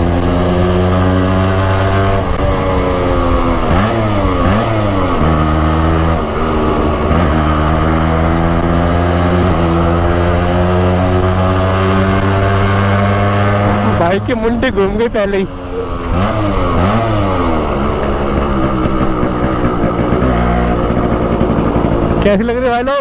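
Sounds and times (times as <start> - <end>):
two-stroke motorcycle engine: 0.0 - 23.0.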